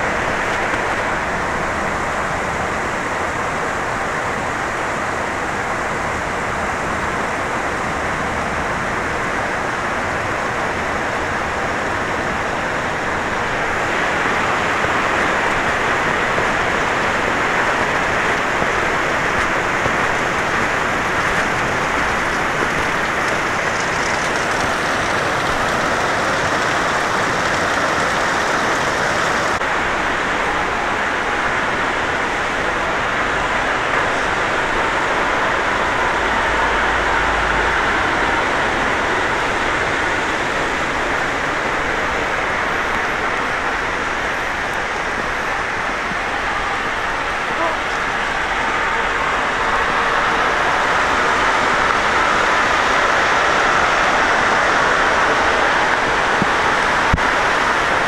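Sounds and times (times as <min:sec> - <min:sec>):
rush of flowing water: 0:00.0 - 0:58.0.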